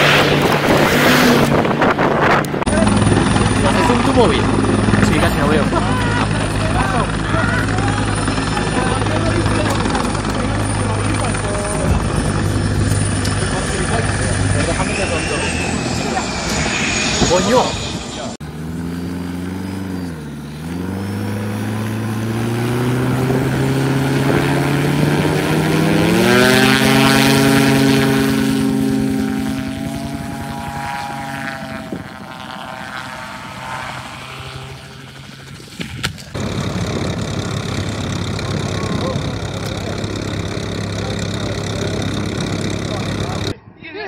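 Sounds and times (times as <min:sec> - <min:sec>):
aircraft engine noise: 0:00.0 - 0:44.0
gyrocopter engine and propeller: 0:00.0 - 0:44.0.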